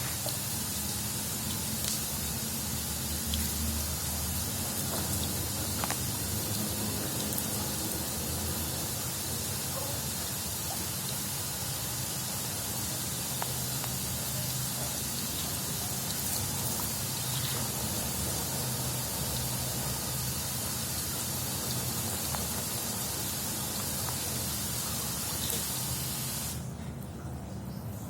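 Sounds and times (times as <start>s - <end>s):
water spraying hiss: 0.0s - 26.7s.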